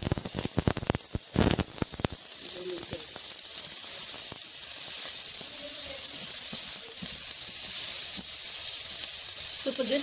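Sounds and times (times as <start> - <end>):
onion sizzling in frying pan: 0.0 - 10.0.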